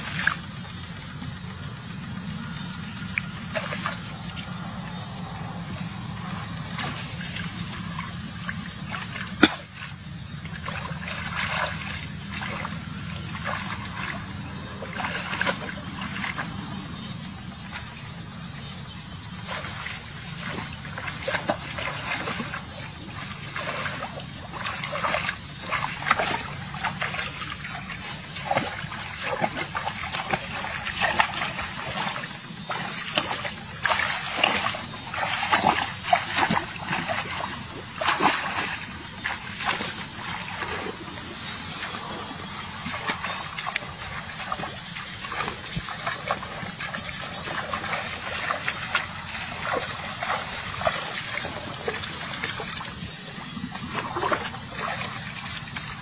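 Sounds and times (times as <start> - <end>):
muddy water splashing: 0.0 - 56.0.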